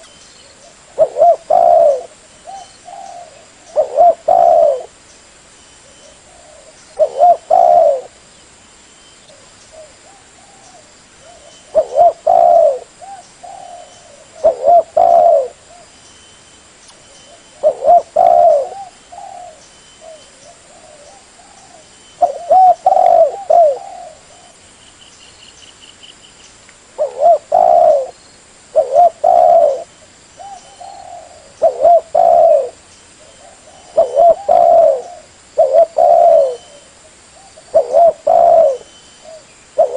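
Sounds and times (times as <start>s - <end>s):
dove cooing: 0.0s - 5.0s, 6.1s - 8.2s, 9.3s - 15.9s, 17.3s - 24.6s, 27.0s - 39.9s.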